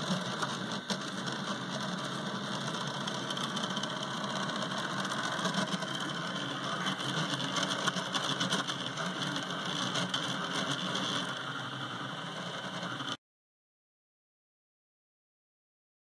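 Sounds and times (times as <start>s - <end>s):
stepper motors whirring: 0.0s - 13.2s.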